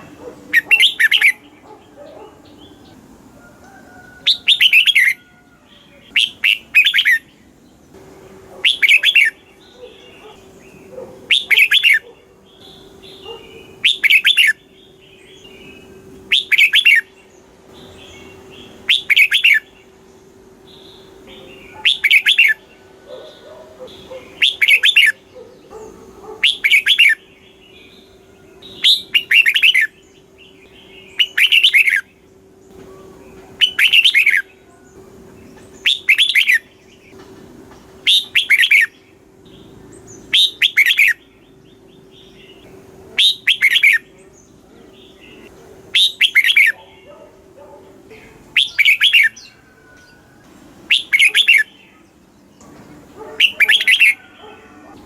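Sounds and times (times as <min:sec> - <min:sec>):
bird warbling song: 0:00.0 - 0:55.0.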